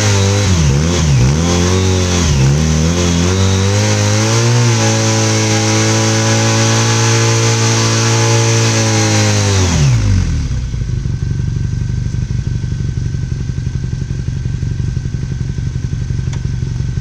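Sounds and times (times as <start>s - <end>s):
motorcycle engine revving down to idle: 0.0s - 17.0s.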